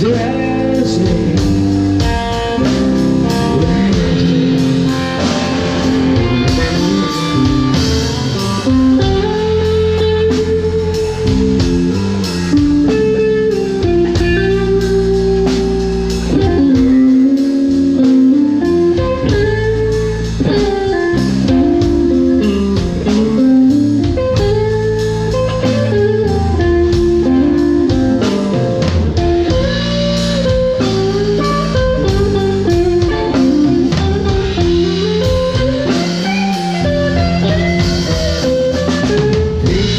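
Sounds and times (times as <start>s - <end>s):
bass: 0.0s - 39.9s
bluesy guitar melody: 0.0s - 39.9s
steady drum beat: 0.0s - 39.9s.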